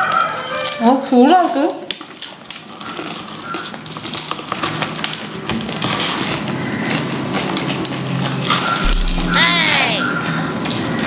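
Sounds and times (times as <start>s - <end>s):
crunching fried chicken: 0.0s - 9.2s.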